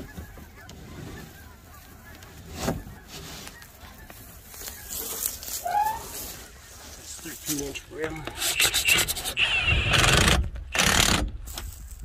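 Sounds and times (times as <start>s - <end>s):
geese honking: 0.0s - 10.2s.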